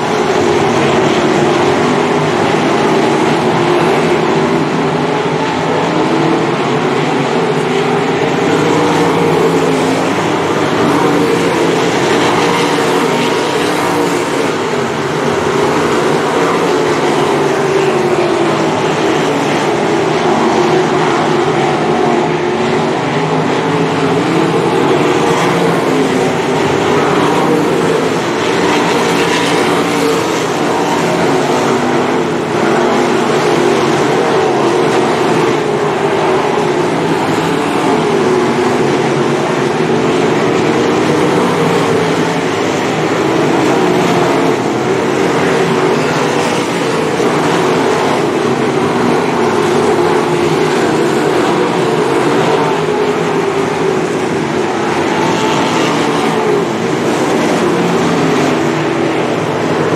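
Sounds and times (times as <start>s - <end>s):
racing car engines roaring: 0.0s - 59.9s.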